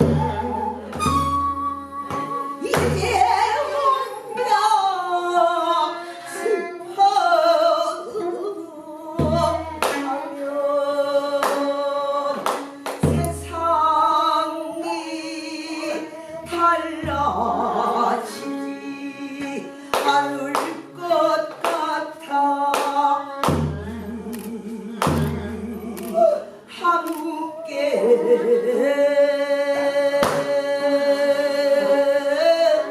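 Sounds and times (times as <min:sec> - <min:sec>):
person singing: 0:00.0 - 0:32.9.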